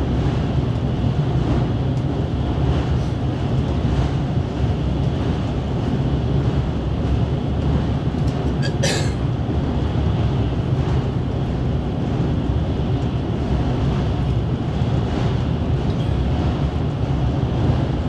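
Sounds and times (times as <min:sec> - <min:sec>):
electric train rumbling at speed: 0:00.0 - 0:18.0.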